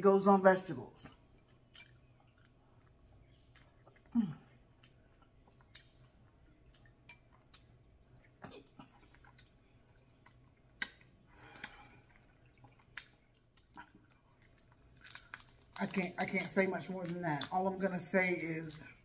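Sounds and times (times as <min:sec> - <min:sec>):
wet chewing and smacking: 0:01.0 - 0:19.0.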